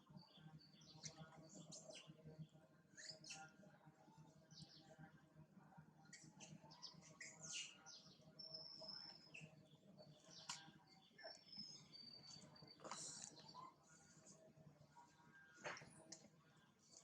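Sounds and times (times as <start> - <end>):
faint high-pitched chirps: 0.0 - 17.0.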